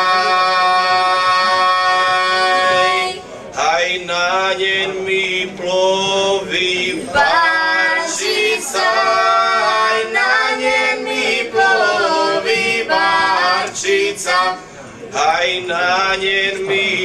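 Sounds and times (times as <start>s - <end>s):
unaccompanied folk singing: 0.0s - 17.0s.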